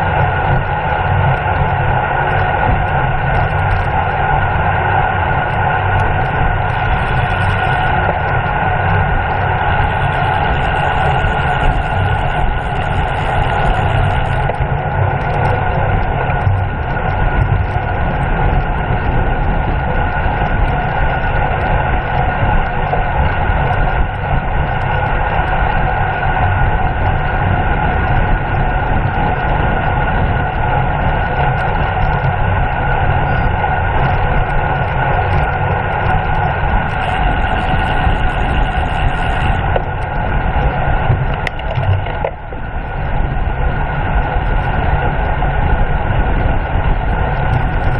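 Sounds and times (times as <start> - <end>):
wind rumble on microphone: 0.0 - 47.9.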